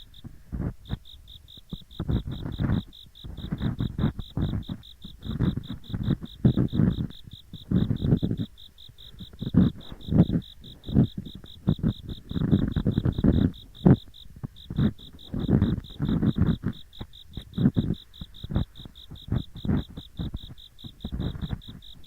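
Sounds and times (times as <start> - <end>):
ear-pick scraping microphone: 0.0 - 1.0, 1.7 - 22.0
insects chirping: 0.0 - 22.0.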